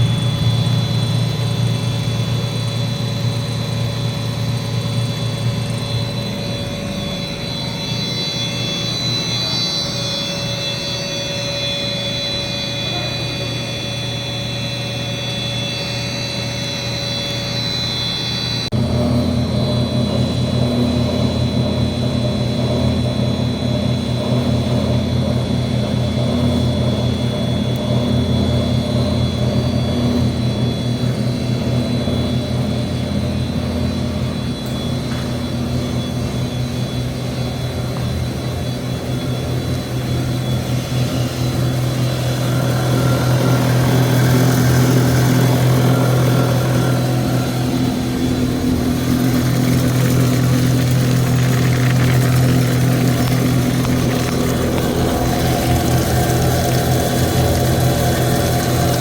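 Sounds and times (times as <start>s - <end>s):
extruder motor humming: 0.0s - 59.0s.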